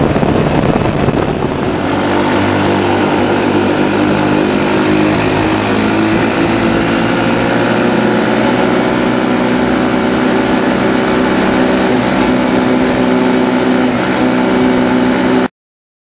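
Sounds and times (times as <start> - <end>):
small engine running steadily: 0.0 - 15.5.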